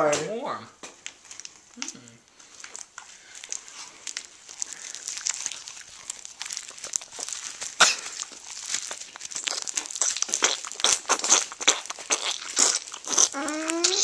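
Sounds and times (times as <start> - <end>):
rubber gloves rubbing and crackling: 0.9 - 14.0.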